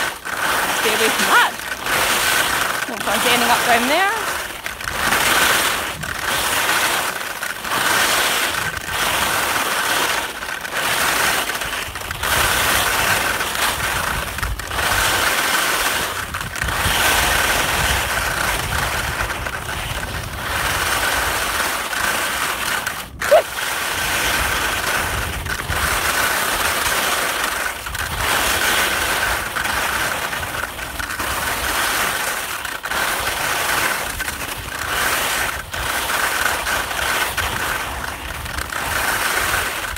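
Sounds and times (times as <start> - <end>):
skis scraping on snow: 0.0 - 39.9.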